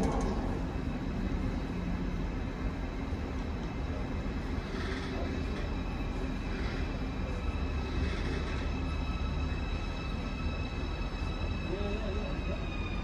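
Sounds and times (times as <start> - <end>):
freight wagons rumbling on rails: 0.0 - 13.0.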